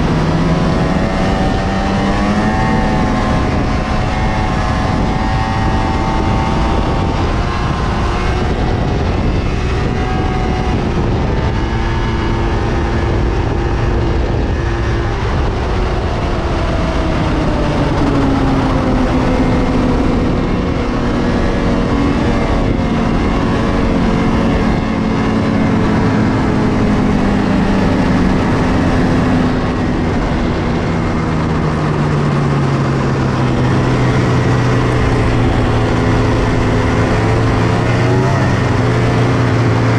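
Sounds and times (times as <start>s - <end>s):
snowmobile engine under load: 0.0s - 39.9s.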